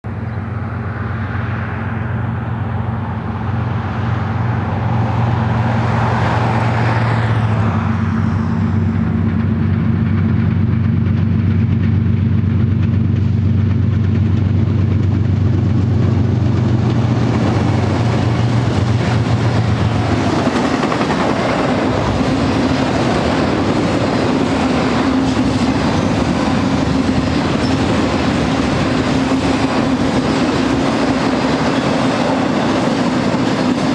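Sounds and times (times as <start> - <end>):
locomotive engine drone: 0.0 - 33.9
freight cars rolling and clattering: 6.0 - 33.9.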